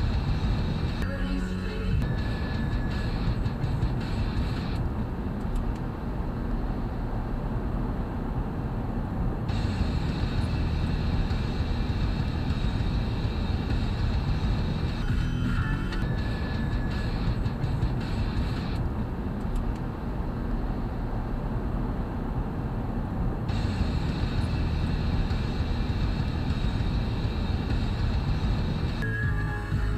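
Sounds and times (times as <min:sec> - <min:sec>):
road and engine rumble in car: 0:00.0 - 0:29.9.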